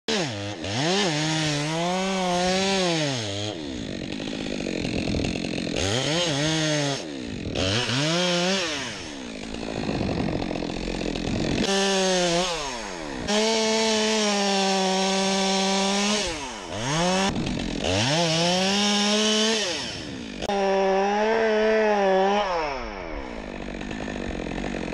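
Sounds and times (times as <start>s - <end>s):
chainsaw revving into tree: 0.1s - 24.9s.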